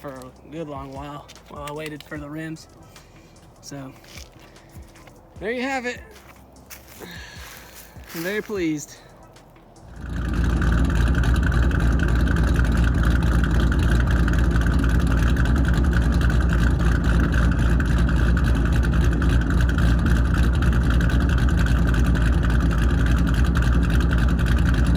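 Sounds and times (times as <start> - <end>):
loud car engine running: 1.7 - 24.9.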